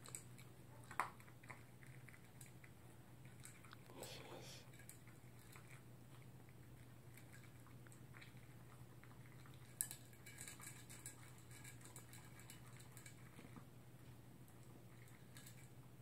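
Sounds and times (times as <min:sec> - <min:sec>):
dog chewing food: 0:00.0 - 0:16.0.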